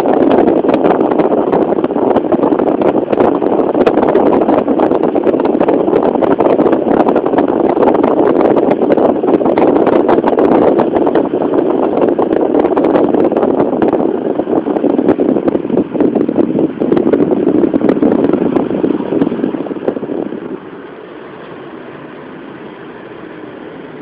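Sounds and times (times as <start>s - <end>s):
wind and road rumble in car: 0.0s - 24.0s
wind buffeting on microphone: 0.0s - 24.0s.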